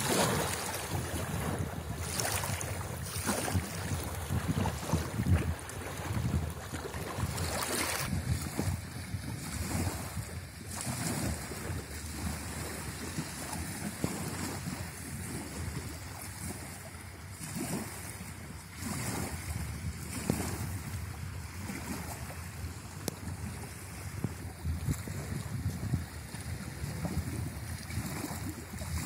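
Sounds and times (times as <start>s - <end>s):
wavelets lapping at shore: 0.0s - 29.0s
wind gusting over microphone: 0.0s - 29.0s.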